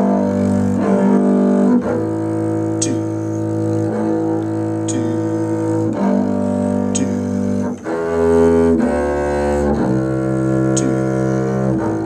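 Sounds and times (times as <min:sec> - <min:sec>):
string orchestra bowed chords: 0:00.0 - 0:12.0.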